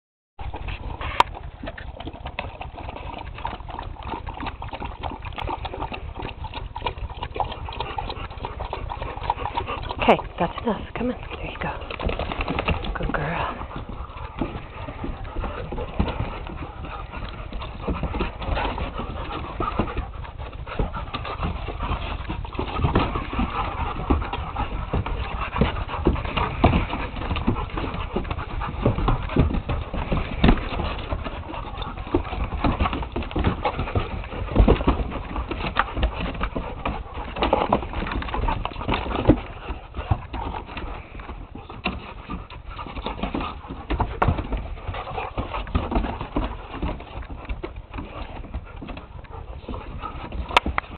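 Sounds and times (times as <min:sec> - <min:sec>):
dogs growling: 0:00.4 - 0:50.9
dogs scuffling: 0:00.5 - 0:50.9.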